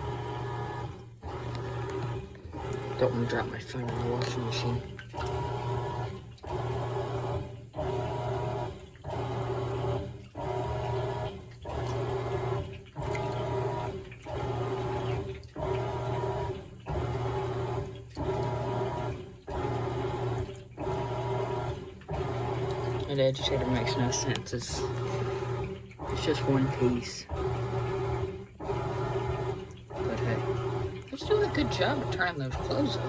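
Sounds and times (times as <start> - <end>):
agitator swishing water: 0.0 - 33.0
washing machine motor humming: 0.0 - 33.0.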